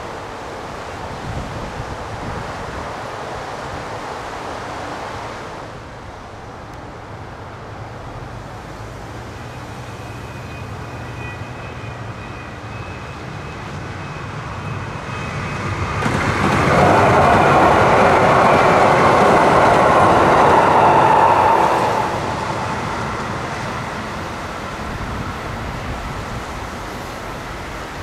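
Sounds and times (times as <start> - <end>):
traffic: 0.0 - 28.0
wind: 0.0 - 28.0
light rail train rolling: 5.2 - 28.0.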